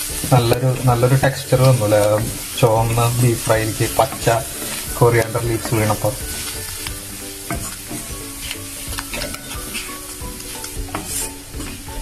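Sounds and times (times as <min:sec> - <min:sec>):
meat sizzling in a pan: 0:00.0 - 0:12.0
wooden spatula scraping pan: 0:00.0 - 0:12.0.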